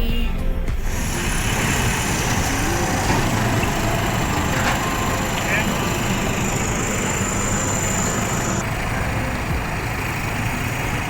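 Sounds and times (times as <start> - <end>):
thin high tone: 0.0 - 10.7
truck engine running: 0.6 - 11.0.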